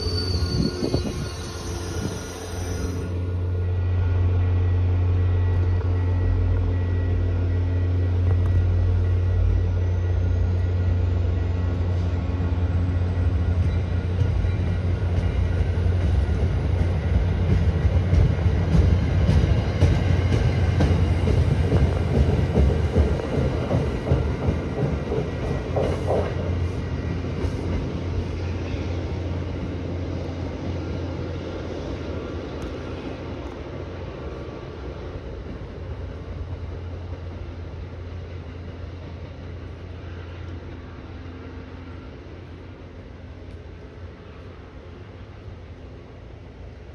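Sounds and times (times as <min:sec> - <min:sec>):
diesel locomotive drone: 0:00.0 - 0:46.9
train wheels clicking on track: 0:05.0 - 0:46.9.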